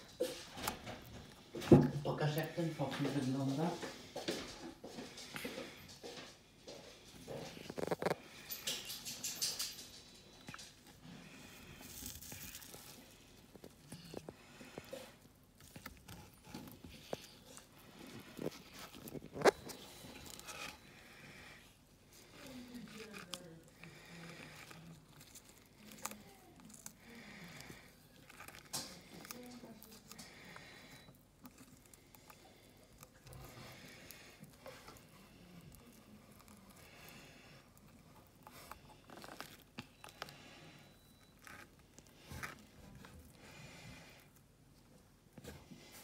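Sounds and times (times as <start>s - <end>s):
tortoise chewing leaves: 0.0s - 4.1s, 7.0s - 46.0s.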